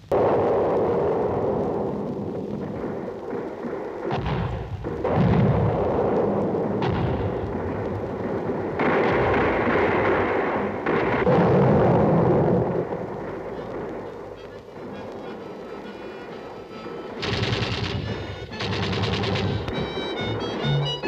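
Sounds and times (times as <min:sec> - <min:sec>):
continuous noisy din: 0:00.0 - 0:21.0
explosions and artillery blasts: 0:00.0 - 0:21.0.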